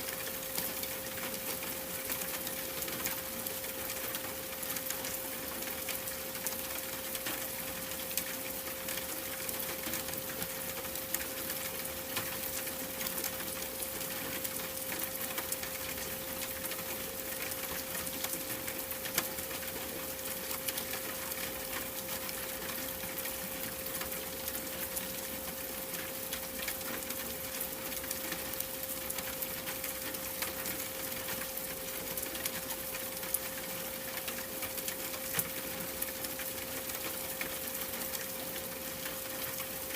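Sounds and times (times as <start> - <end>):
rain hissing with drop ticks: 0.0 - 39.9.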